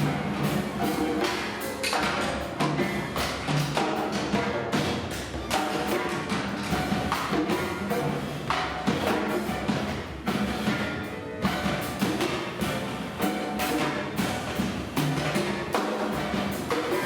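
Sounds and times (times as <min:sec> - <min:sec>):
drum and percussion strikes: 0:00.0 - 0:17.0.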